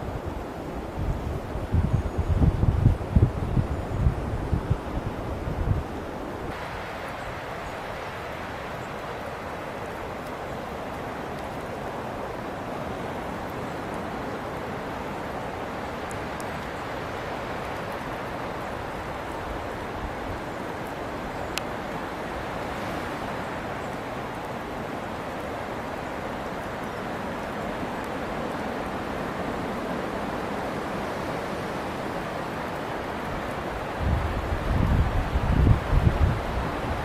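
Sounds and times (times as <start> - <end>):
strong wind through trees: 0.0 - 37.0.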